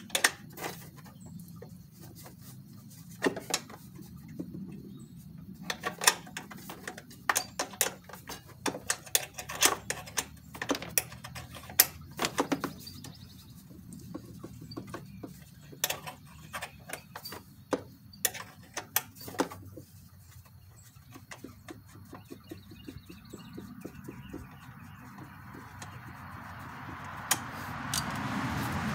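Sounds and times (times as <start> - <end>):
hands handling engine parts: 0.0 - 28.9.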